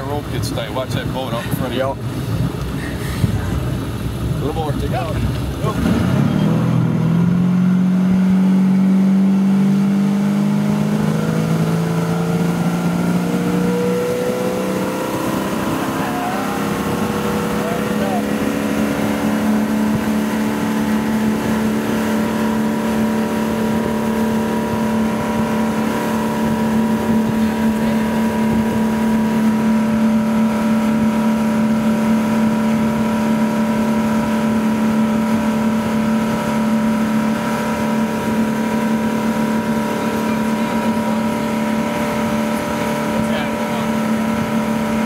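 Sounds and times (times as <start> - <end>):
boat engine running: 0.0 - 45.0
wind: 0.0 - 45.0.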